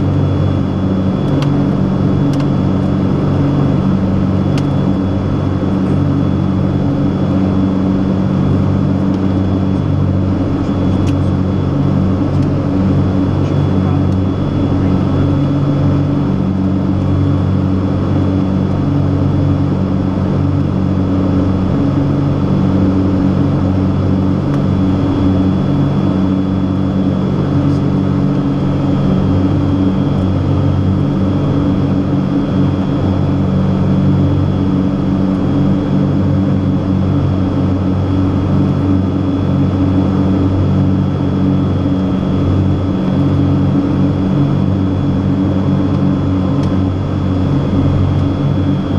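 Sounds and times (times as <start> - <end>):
aircraft engines and propellers droning: 0.0 - 48.9.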